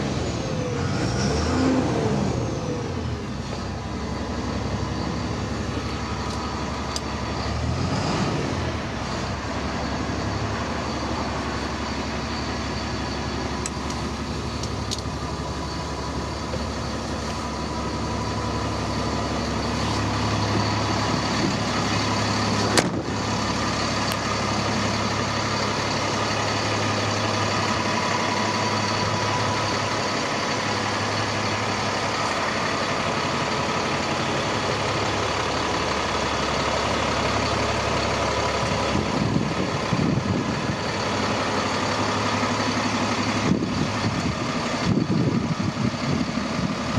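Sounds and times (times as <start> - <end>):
truck diesel engine idling: 0.0 - 46.9.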